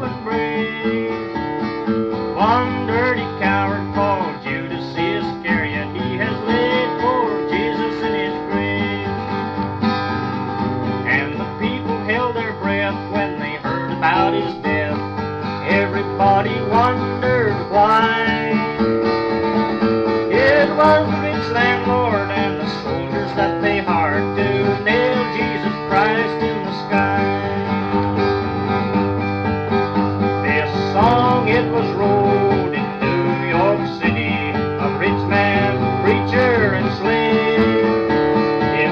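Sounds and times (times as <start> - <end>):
acoustic guitar country-folk music: 0.0 - 38.9.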